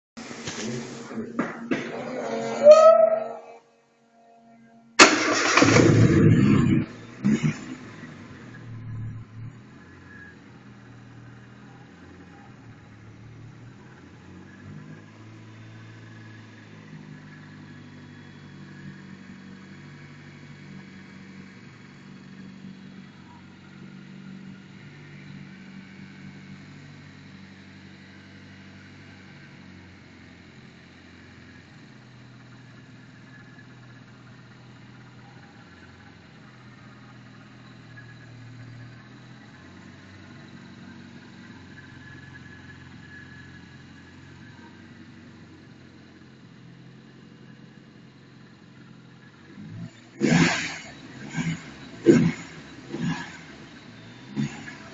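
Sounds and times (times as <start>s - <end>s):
car engine idling: 0.2s - 54.9s.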